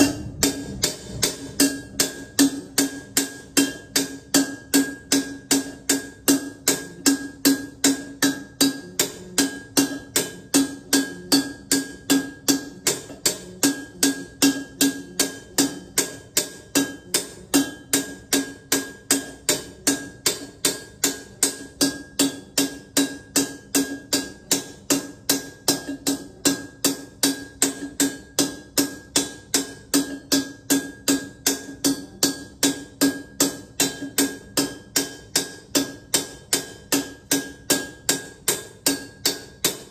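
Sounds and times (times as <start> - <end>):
hammer striking copper vase: 0.0 - 39.9.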